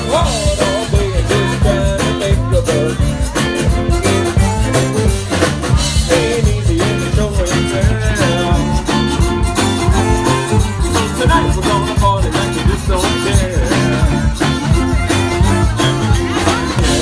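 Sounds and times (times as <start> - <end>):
drum kit beat: 0.0 - 17.0
electric guitars: 0.0 - 17.0.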